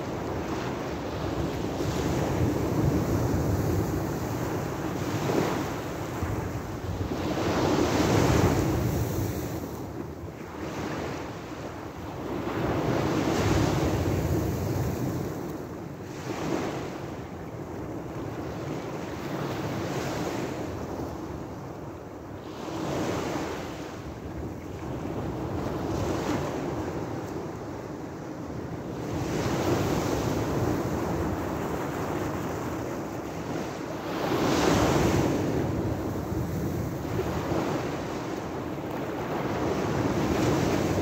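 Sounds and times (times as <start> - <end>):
small waves breaking on beach: 0.0 - 41.0.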